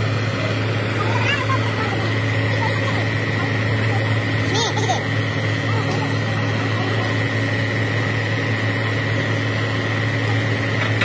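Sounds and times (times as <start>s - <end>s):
diesel engine idling: 0.0s - 11.0s
high whine: 0.0s - 11.0s.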